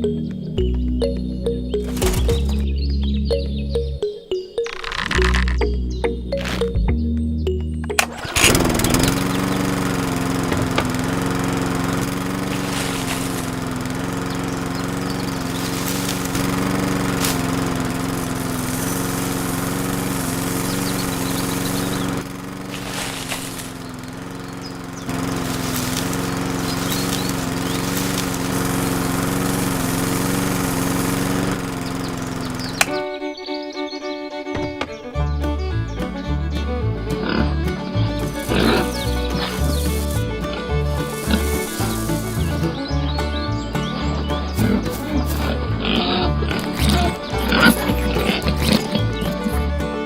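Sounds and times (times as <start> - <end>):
small motor running: 4.7 - 6.8, 7.9 - 34.5, 36.5 - 50.0.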